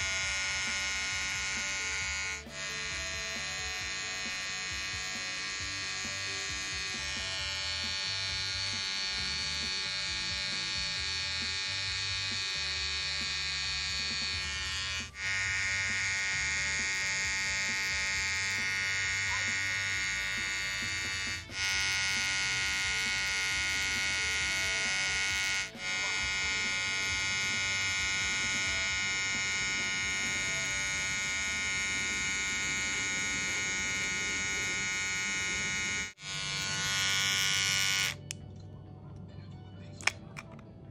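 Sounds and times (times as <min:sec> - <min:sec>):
electric hair trimmer buzzing: 0:00.0 - 0:38.4.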